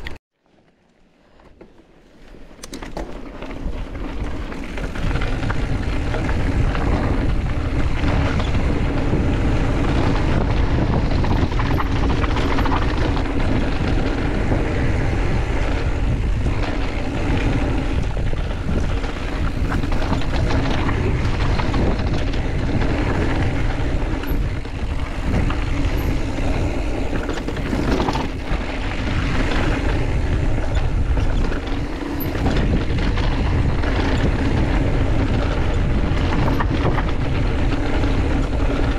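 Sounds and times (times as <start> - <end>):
bike knocking and rattling: 0.0 - 38.9
tyres rolling over dirt and stones: 2.4 - 38.9
wind on microphone: 4.1 - 38.9.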